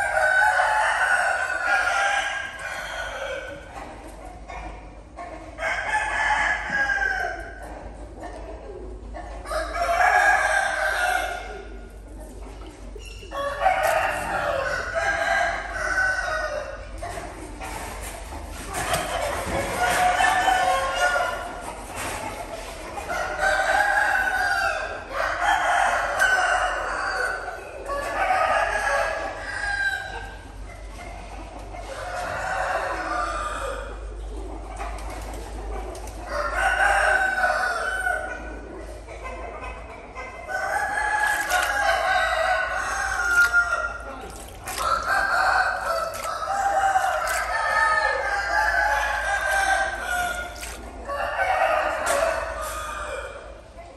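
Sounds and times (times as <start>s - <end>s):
birds crowing and clucking: 0.0s - 53.9s.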